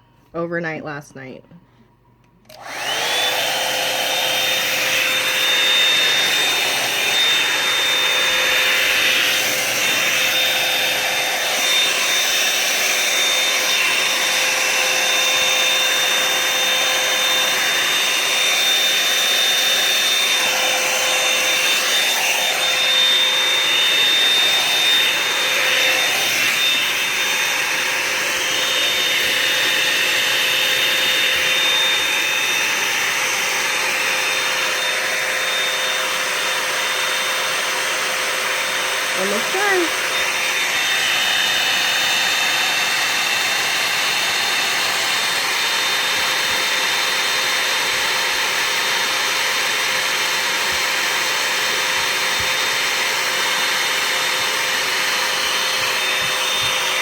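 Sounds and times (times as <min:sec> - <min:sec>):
hot air brush running: 0:02.5 - 0:57.0.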